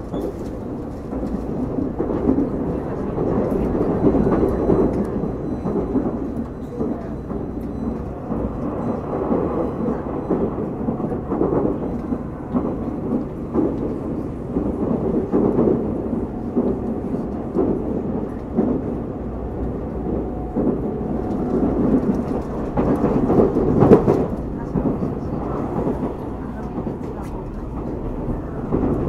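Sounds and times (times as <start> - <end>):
passing train: 0.0 - 29.0
train wheels rumbling on rails: 0.0 - 29.0.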